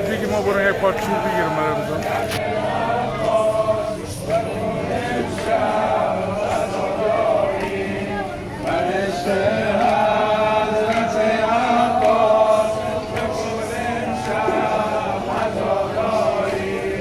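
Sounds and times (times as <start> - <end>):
voices chanting a lament: 0.0 - 17.0.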